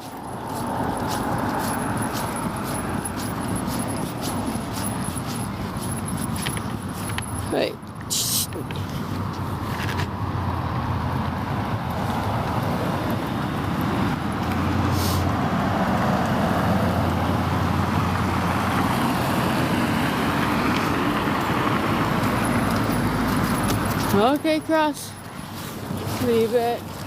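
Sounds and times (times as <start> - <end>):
road traffic passing: 0.0 - 27.0.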